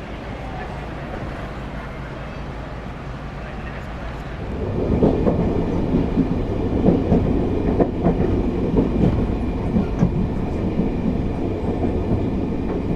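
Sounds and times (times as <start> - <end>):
train rumbling on rails: 0.0 - 12.9.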